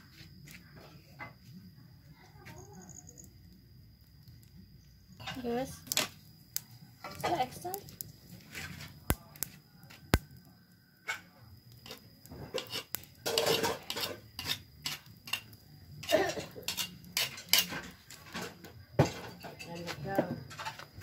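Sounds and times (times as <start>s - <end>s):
fire popping and cracking: 3.0s - 21.0s.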